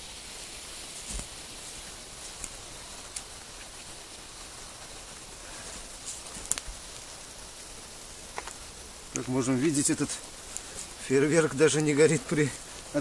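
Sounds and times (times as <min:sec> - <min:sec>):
fire crackles: 0:00.0 - 0:13.0
fire hissing: 0:00.0 - 0:13.0.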